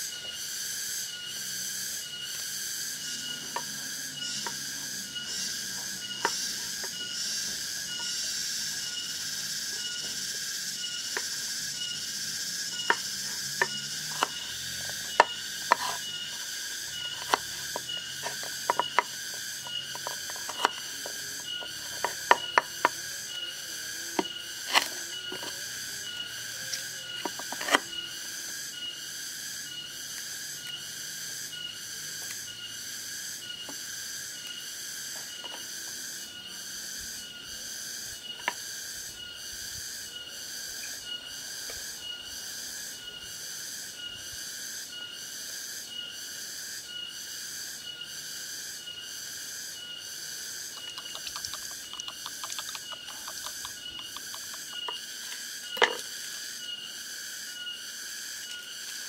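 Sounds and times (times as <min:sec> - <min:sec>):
high-pitched insect calls: 0:00.0 - 0:59.0.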